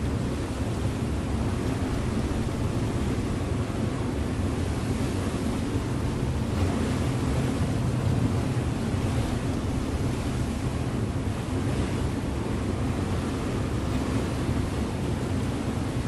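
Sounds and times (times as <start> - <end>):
ship engine humming: 0.0 - 16.0
water rushing along hull: 0.0 - 16.0
wind buffeting microphone: 0.0 - 16.0.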